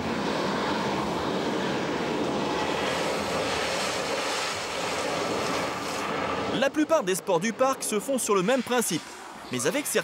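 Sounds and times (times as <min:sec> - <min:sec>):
steady rushing rumble: 0:00.0 - 0:09.6.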